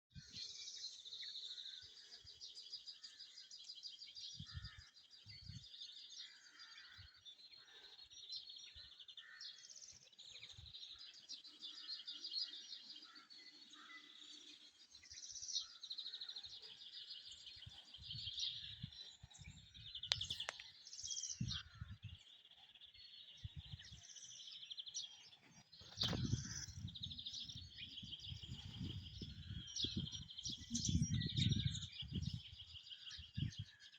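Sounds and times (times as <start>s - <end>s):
songbirds chirping and trilling: 0.0s - 33.9s.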